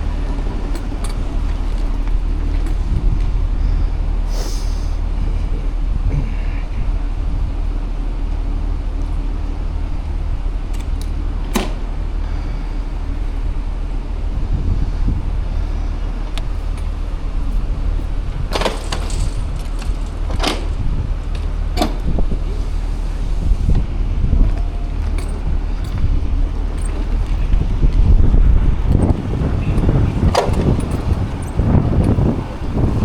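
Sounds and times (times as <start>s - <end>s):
traffic going by: 0.0s - 33.0s
wind rumble on microphone: 0.0s - 33.0s.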